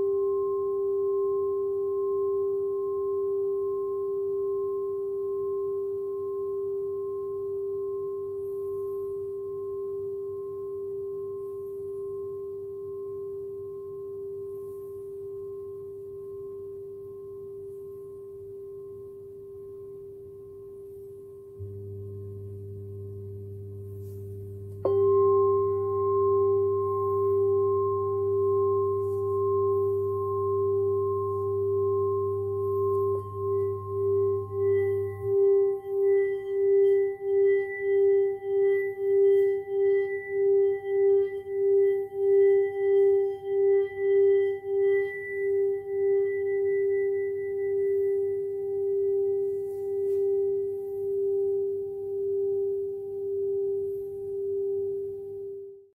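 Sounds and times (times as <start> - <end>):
singing bowl ringing: 0.0 - 55.9.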